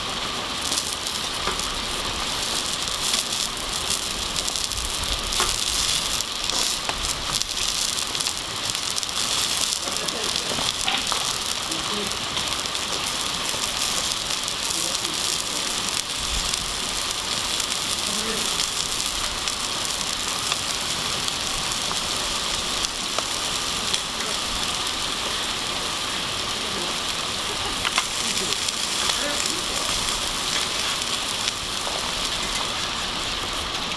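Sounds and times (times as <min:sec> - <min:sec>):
campfire hissing: 0:00.0 - 0:33.9
fire crackles and pops: 0:00.0 - 0:33.9.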